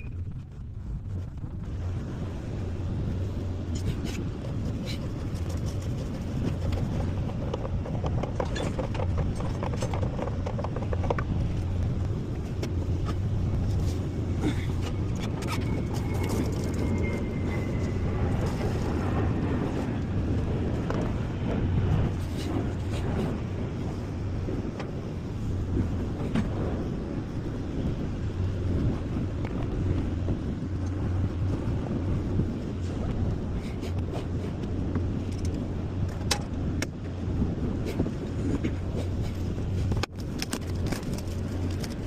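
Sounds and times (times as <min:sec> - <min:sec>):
engine humming steadily: 0:00.0 - 0:42.0.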